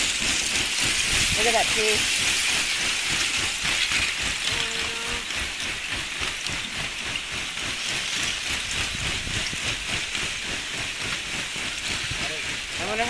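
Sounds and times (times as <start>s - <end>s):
ice grinding and crackling: 0.0s - 13.0s.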